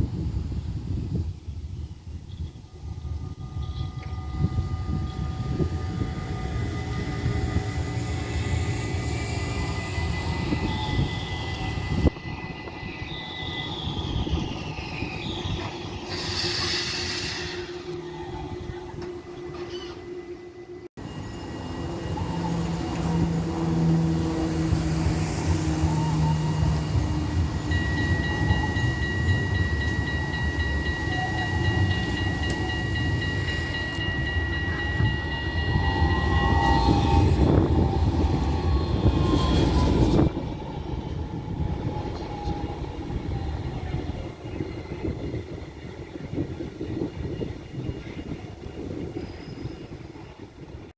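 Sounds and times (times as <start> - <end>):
tram wheels rumbling on rail: 0.0 - 50.9.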